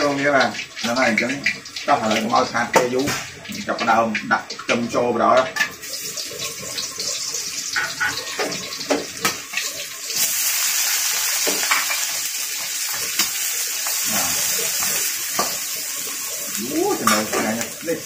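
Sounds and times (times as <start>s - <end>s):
food sizzling in hot oil: 0.0s - 18.0s
oil crackling: 0.0s - 18.0s.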